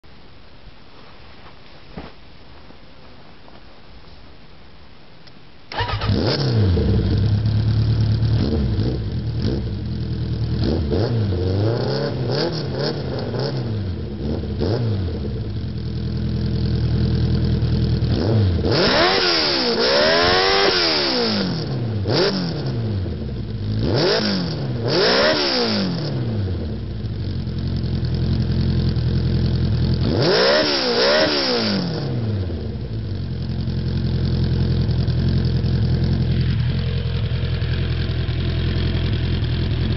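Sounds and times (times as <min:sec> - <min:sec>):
motorcycle engine revving: 0:05.7 - 0:39.9.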